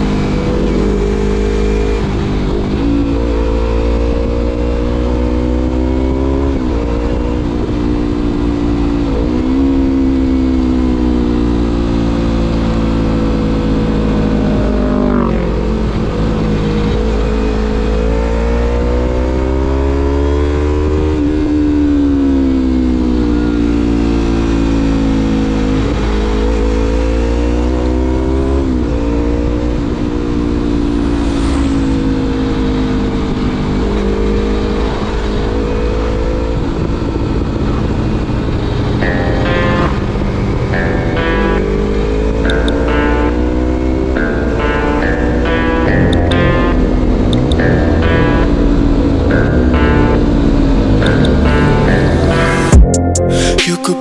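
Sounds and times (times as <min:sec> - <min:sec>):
motorcycle engine accelerating: 0:00.0 - 0:53.2.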